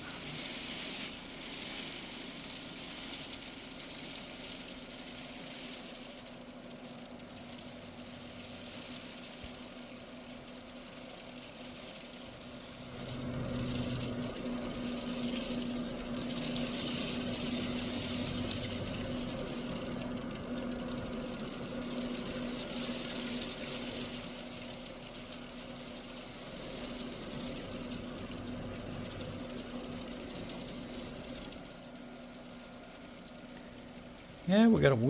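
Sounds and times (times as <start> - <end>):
constant low hum: 0.0 - 35.0
freezing rain hissing: 0.0 - 35.0.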